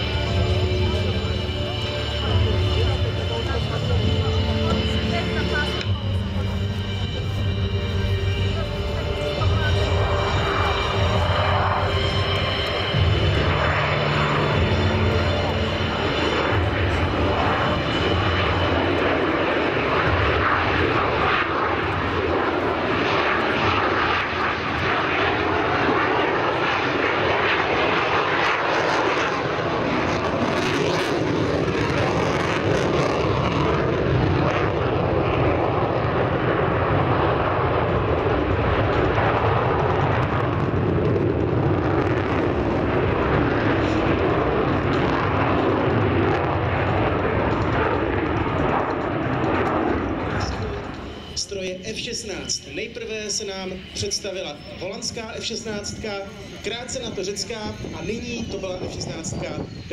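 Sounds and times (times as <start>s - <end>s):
fighter jet engine roar: 0.0s - 59.9s.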